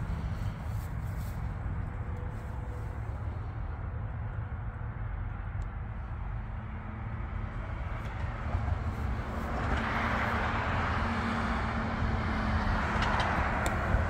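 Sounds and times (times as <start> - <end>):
traffic rumble: 0.0 - 14.0
vehicle passing: 0.0 - 14.0.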